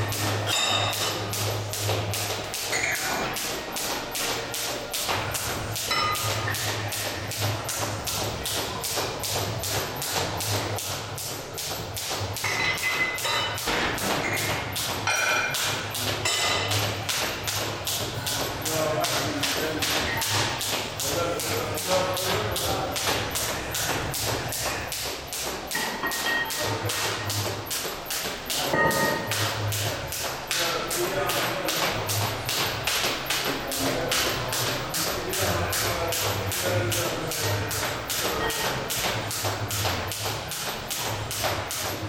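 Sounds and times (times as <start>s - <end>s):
jump rope slapping floor: 0.0s - 42.0s.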